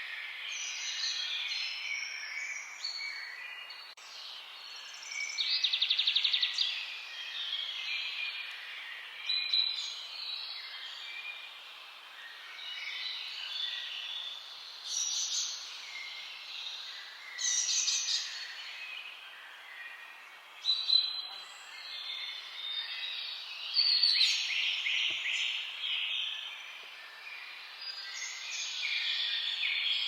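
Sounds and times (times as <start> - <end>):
birds singing and calling: 0.0 - 30.0.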